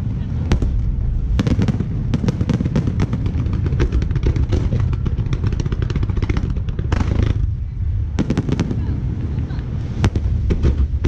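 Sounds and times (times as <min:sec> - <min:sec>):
fireworks bursting: 0:00.0 - 0:11.0
rumble of booms: 0:00.0 - 0:11.0.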